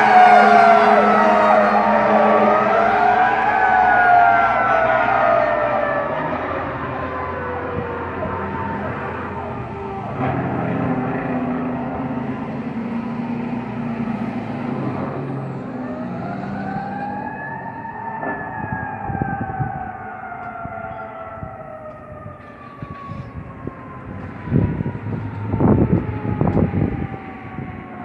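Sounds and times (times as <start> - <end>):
short loud siren blasts: 0.0 - 13.8, 15.3 - 28.0
fire engine siren wailing: 0.0 - 28.0
low engine rumble: 0.0 - 28.0.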